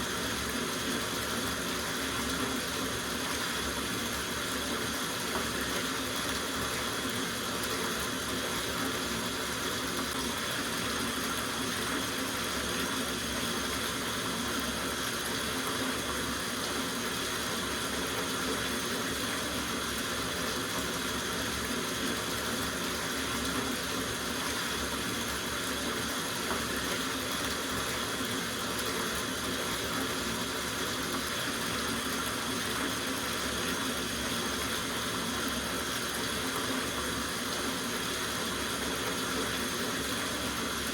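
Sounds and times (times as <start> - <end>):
tap water running into bathtub: 0.0 - 40.9.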